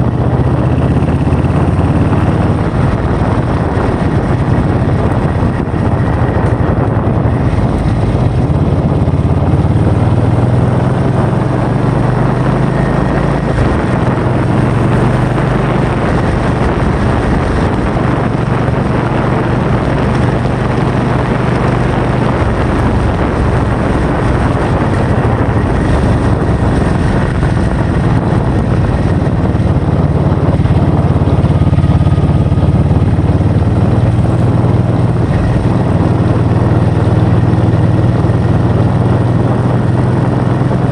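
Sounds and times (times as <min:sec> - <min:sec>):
low hum: 0:00.0 - 0:40.9
wind noise on microphone: 0:00.0 - 0:40.9.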